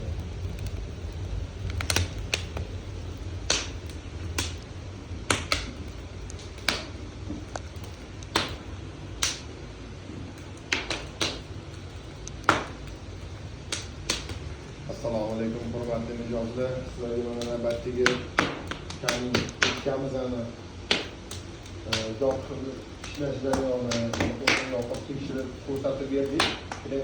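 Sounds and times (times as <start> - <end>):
low steady rumble: 0.0 - 27.0
wood fire crackling and popping: 0.0 - 27.0.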